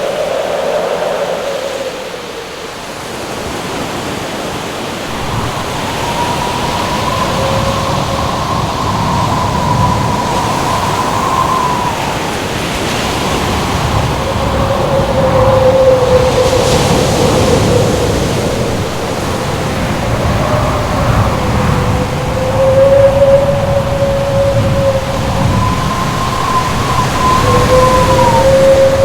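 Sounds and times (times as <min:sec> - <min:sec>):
howling wind: 0:00.0 - 0:29.0
surf roar: 0:00.0 - 0:29.0.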